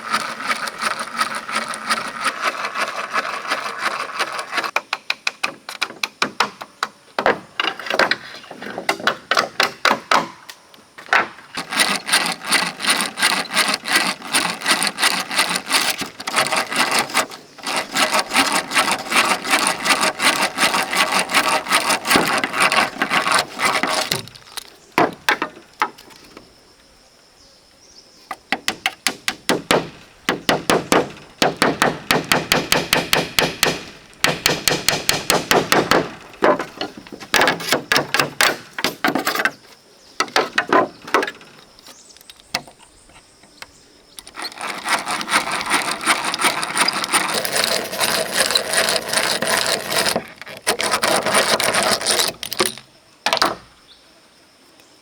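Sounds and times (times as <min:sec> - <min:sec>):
hand tool scraping wood: 0:00.0 - 0:06.6, 0:11.0 - 0:26.4, 0:28.3 - 0:53.7.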